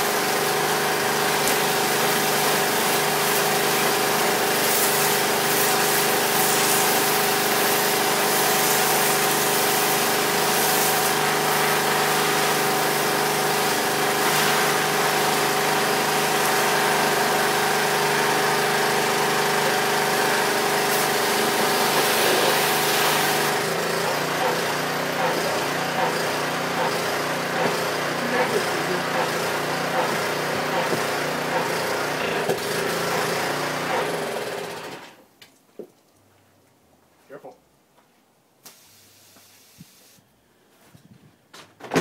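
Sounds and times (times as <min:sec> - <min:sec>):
pressure washer running: 0:00.0 - 0:35.2.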